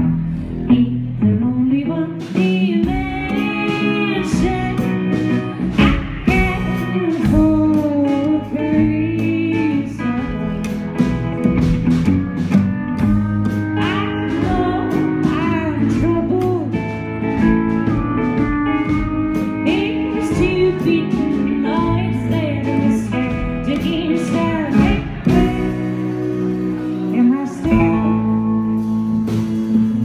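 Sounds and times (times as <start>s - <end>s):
double bass plucked: 0.0s - 30.0s
electric guitar picking: 0.0s - 30.0s
woman singing: 0.6s - 11.1s, 13.5s - 29.2s.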